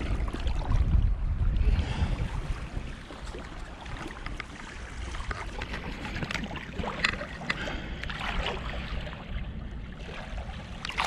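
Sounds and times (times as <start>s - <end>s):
wind rumble on microphone: 0.0s - 11.0s
shallow water splashing: 1.6s - 11.0s.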